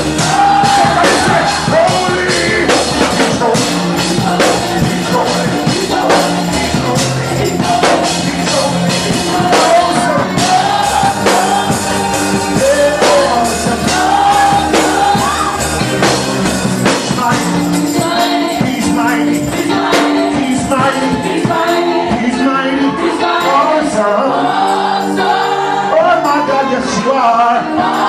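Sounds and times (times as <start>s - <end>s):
person singing: 0.0s - 16.2s, 16.9s - 24.5s
gospel band playing: 0.0s - 28.0s.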